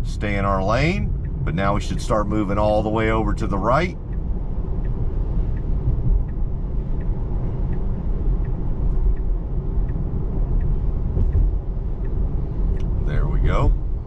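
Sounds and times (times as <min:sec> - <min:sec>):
road and tyre rumble: 0:00.0 - 0:14.0
turn signal ticking: 0:00.0 - 0:14.0.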